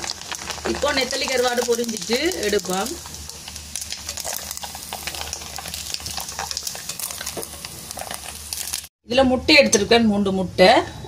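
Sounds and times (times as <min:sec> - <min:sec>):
fish sizzling in hot oil: 0:00.0 - 0:08.9.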